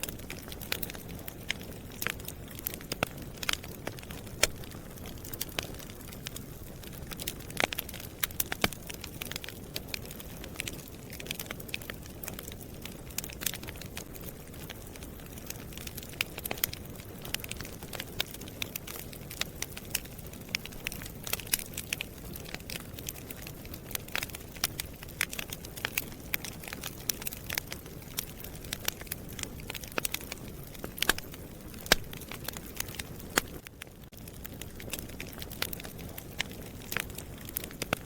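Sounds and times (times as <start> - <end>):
low rumble of flames: 0.0 - 38.0
wood fire crackling and popping: 0.0 - 38.0.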